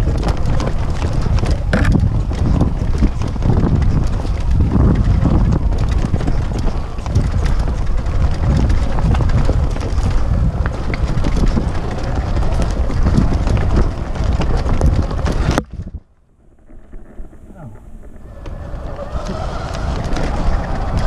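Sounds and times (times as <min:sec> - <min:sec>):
tyres rumbling on dirt: 0:00.0 - 0:16.0, 0:16.9 - 0:21.0
wind buffeting microphone: 0:00.0 - 0:21.0.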